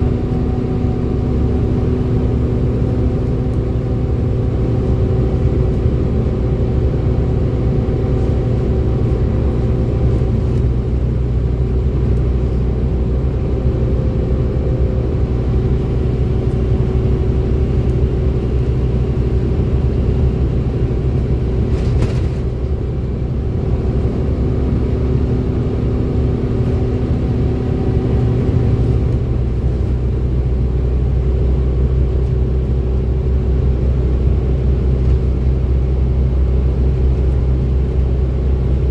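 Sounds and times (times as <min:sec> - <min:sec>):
bus engine rumble with whine: 0:00.0 - 0:38.9.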